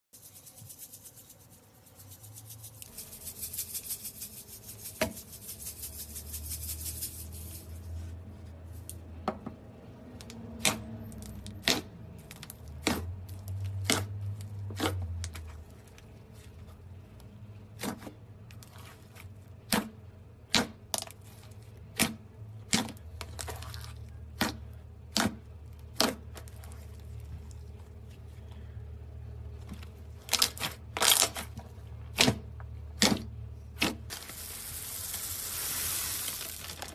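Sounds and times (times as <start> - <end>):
low steady hum: 0.2 - 36.9.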